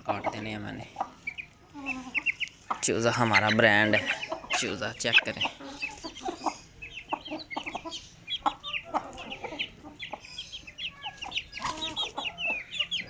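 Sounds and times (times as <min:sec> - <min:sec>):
chickens clucking: 0:00.0 - 0:13.0
chicks peeping: 0:00.0 - 0:13.0.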